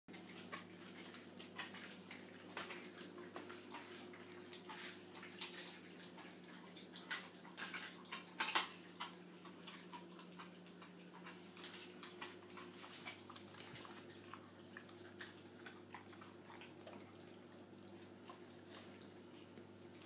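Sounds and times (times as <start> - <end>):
dog chewing and tearing meat: 0.1 - 20.0.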